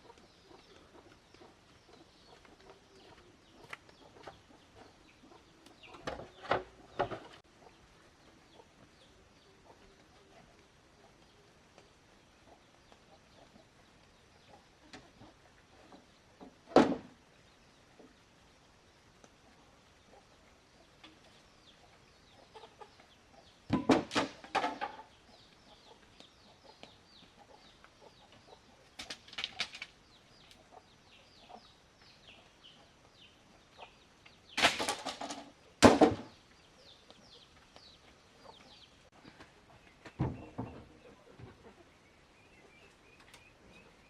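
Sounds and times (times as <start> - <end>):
chickens clucking and squawking: 0.0 - 35.8, 36.4 - 44.0.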